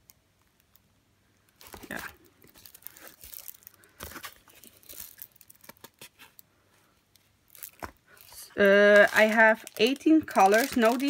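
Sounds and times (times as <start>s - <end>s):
plastic film crinkling: 1.5s - 6.5s, 7.1s - 11.0s.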